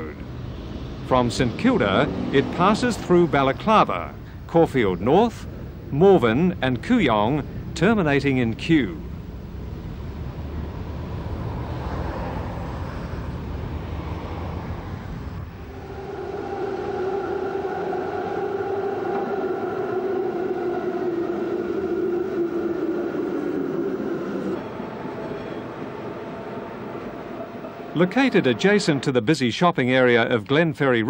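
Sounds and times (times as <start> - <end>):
tram rumbling on tracks: 0.0 - 31.0
tram whine: 0.0 - 31.0.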